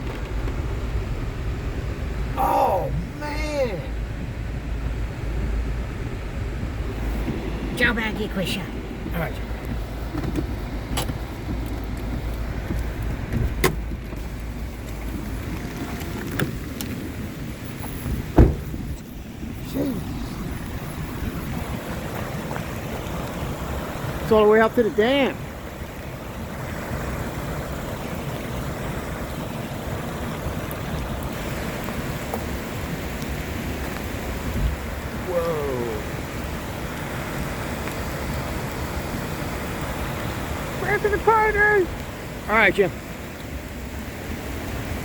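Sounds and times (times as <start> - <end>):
car engine low rumble: 0.0 - 45.0
rushing creek water: 0.0 - 45.0.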